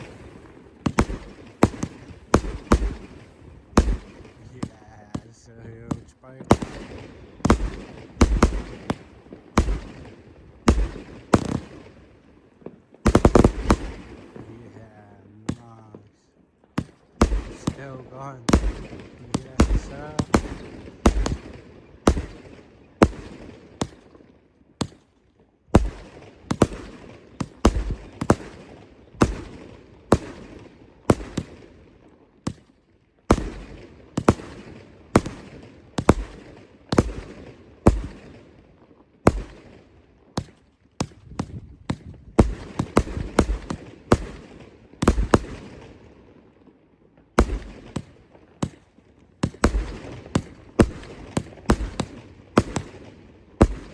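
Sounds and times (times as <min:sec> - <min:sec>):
fireworks bangs: 0:00.0 - 0:46.5, 0:47.1 - 0:53.9.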